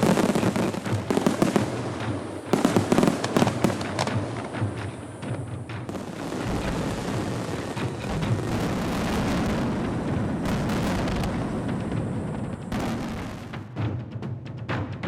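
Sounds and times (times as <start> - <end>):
fireworks booming and crackling: 0.0 - 13.8.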